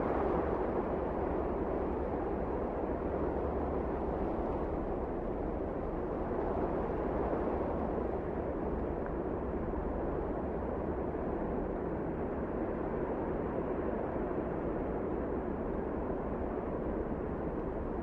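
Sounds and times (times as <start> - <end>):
strong blizzard wind: 0.0 - 18.0.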